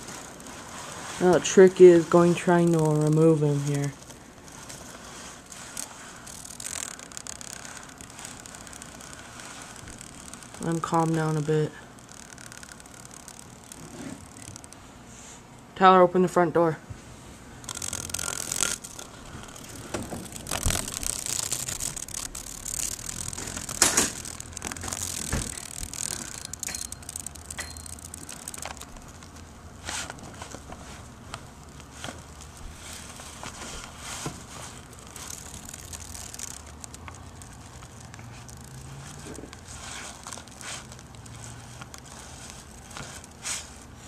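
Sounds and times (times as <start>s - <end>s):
net scraping against window blind: 0.0s - 15.4s, 17.6s - 31.2s, 31.8s - 44.0s.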